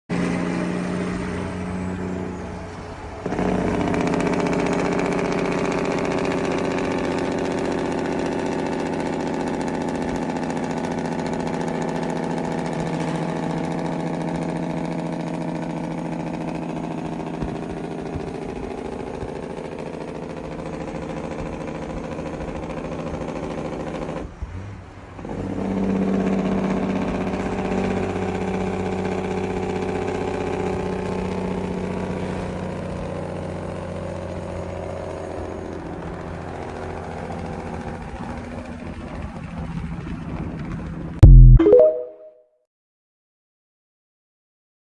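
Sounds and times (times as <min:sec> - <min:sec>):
truck engine running: 0:00.1 - 0:41.5.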